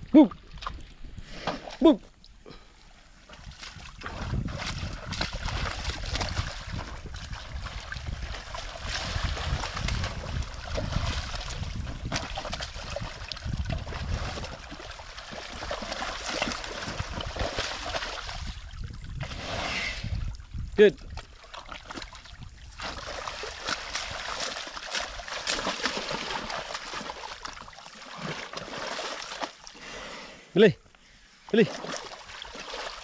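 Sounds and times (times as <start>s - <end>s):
water and mud sloshing: 0.0s - 30.2s, 31.1s - 33.0s.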